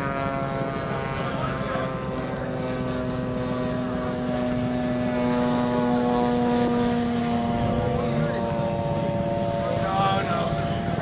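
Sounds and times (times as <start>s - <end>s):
model airplane engine: 0.0s - 11.0s.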